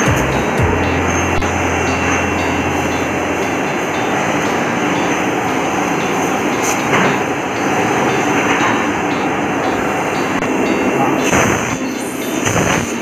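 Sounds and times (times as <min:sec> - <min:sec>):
industrial vacuum cleaner running: 0:00.0 - 0:13.0.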